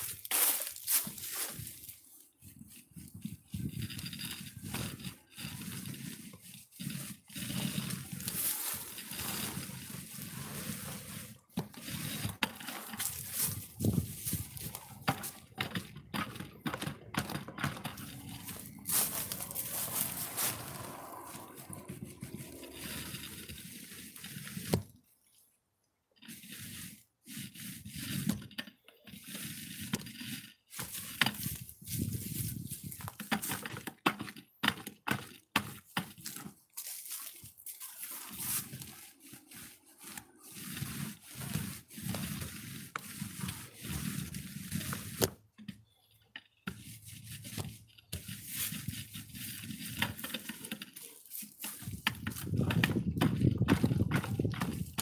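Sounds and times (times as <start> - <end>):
paint roller rolling wet coating: 0.1 - 25.4, 26.2 - 55.0.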